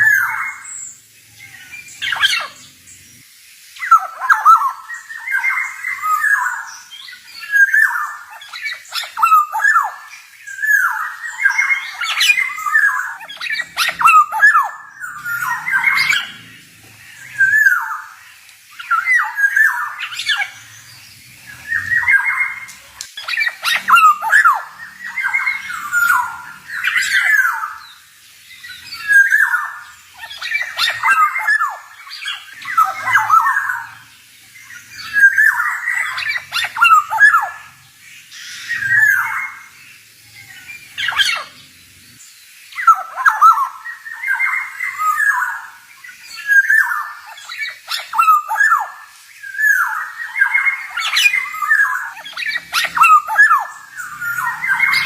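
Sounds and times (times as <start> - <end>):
bird singing whistled phrases: 3.8 - 16.5, 17.1 - 20.9, 21.5 - 34.0, 34.6 - 39.7, 42.8 - 55.0.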